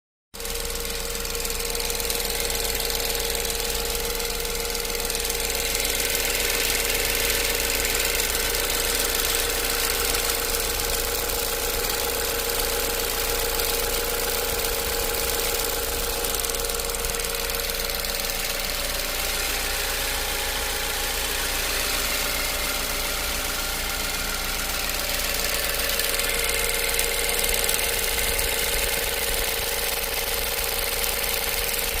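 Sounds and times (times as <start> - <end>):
car engine running: 0.4 - 32.0
rapid engine ticking: 0.4 - 32.0.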